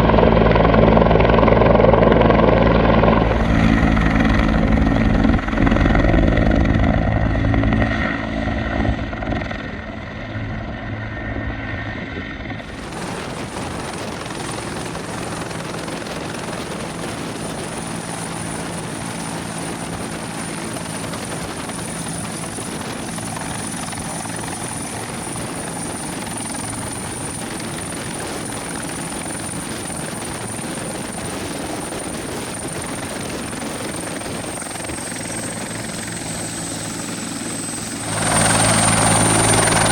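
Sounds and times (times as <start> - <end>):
helicopter rotor and turbine: 0.0 - 39.9.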